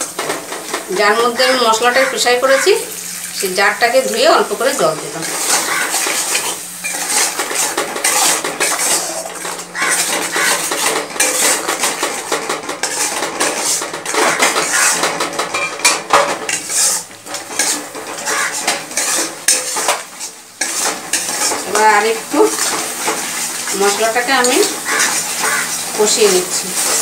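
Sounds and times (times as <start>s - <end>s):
metal spatula scraping a pan: 0.0s - 3.0s, 4.1s - 27.0s.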